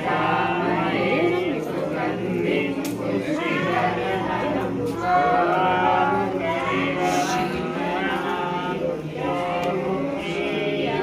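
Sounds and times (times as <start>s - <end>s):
group of voices chanting: 0.0s - 11.0s.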